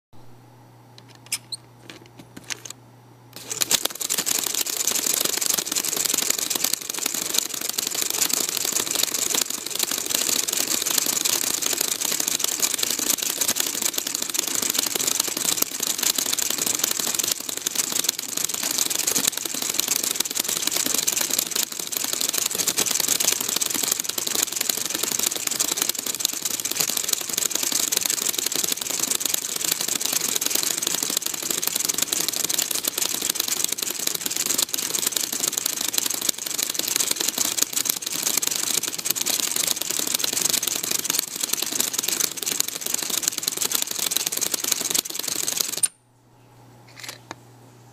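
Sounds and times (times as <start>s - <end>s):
projector mechanism clattering: 1.0s - 2.8s, 3.4s - 46.0s.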